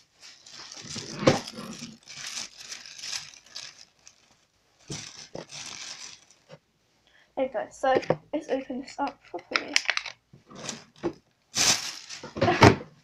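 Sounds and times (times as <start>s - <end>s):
plastic packaging crinkling: 0.0s - 6.6s, 8.6s - 12.6s.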